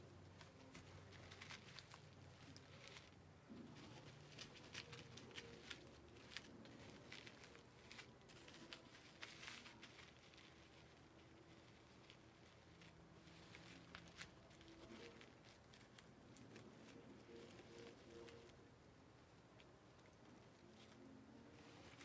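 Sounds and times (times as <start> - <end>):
plastic sheet crinkling on door mat: 0.2 - 18.7, 19.6 - 22.0.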